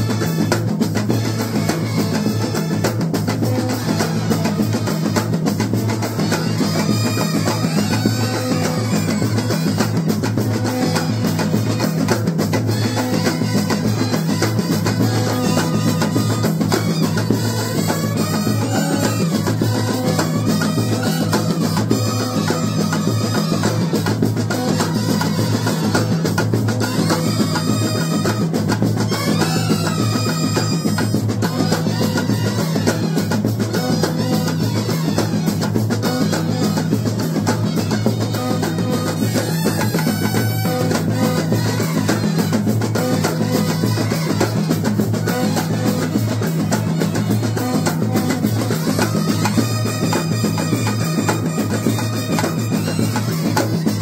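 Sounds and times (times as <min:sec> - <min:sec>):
snare and bass drum beats: 0:00.0 - 0:54.0
wind instrument melody: 0:00.0 - 0:54.0.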